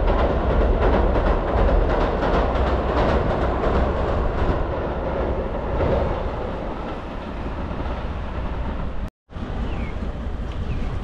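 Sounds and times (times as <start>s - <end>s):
train running noise: 0.0s - 11.0s
train wheels clattering on bridge: 0.0s - 11.0s.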